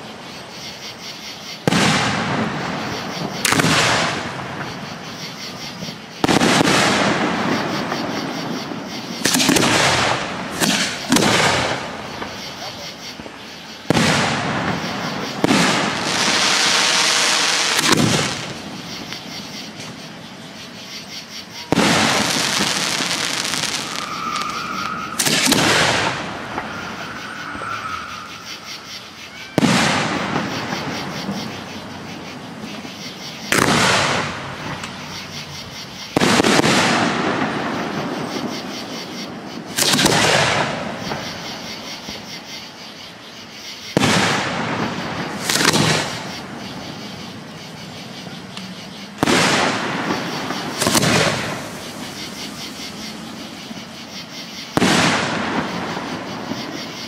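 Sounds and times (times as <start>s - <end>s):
firework shells booming: 1.6s - 20.8s, 21.4s - 28.9s, 29.5s - 42.2s, 43.9s - 54.0s, 54.6s - 56.9s
firework hiss: 1.6s - 42.0s, 43.9s - 56.9s.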